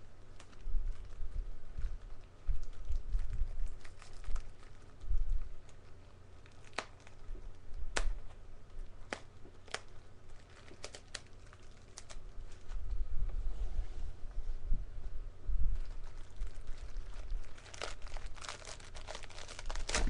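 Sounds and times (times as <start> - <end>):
plastic packaging crinkling: 0.3 - 8.2, 8.8 - 13.0, 15.7 - 20.0.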